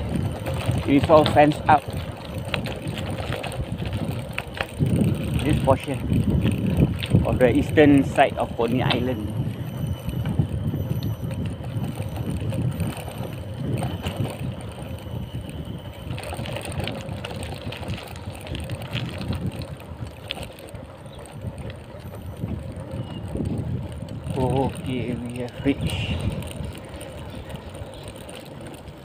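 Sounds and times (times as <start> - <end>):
bicycle rattling over bumps: 0.0 - 29.0
tyres rolling on gravel: 0.0 - 29.0
wind buffeting microphone: 0.0 - 29.0.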